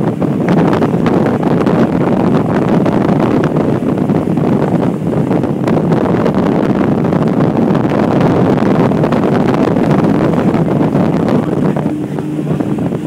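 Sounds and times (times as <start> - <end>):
boat motor humming: 0.0 - 13.0
wind buffeting microphone: 0.0 - 13.0.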